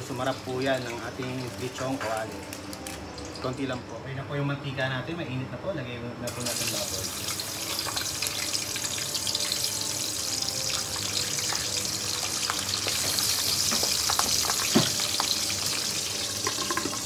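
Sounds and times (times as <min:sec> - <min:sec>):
meat sizzling in hot oil: 0:00.0 - 0:03.8, 0:06.3 - 0:17.0.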